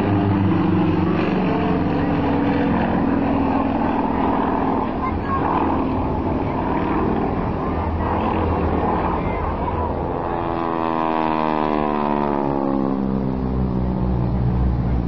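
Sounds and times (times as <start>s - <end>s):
aircraft engine passing low: 0.0s - 15.0s.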